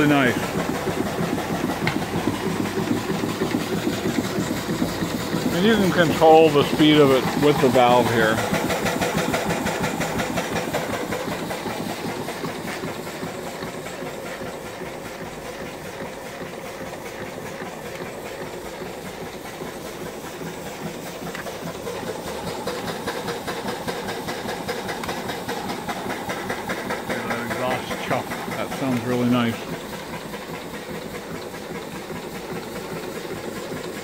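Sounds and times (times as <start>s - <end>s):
steam engine exhaust chuffs: 0.0s - 34.0s
steam hissing: 0.0s - 34.0s.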